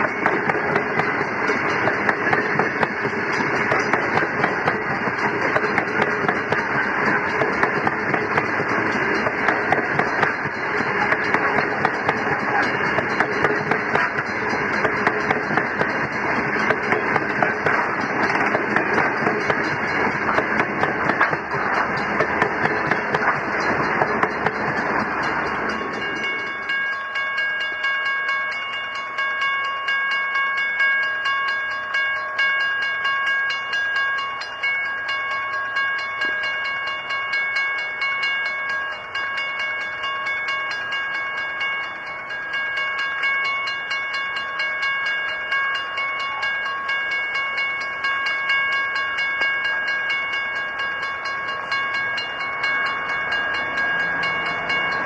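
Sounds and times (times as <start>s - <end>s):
train wheels clicking and rumbling: 0.0s - 29.2s, 32.4s - 55.0s
distant train approaching: 0.0s - 55.0s.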